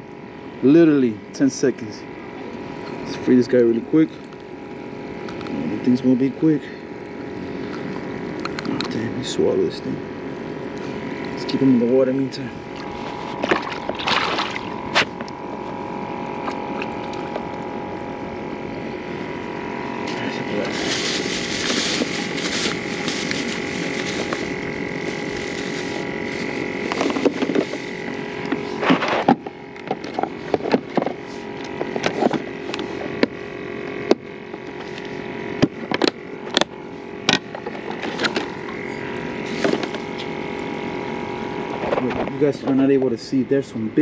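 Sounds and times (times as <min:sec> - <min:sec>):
steady mechanical hum: 0:00.0 - 0:44.0.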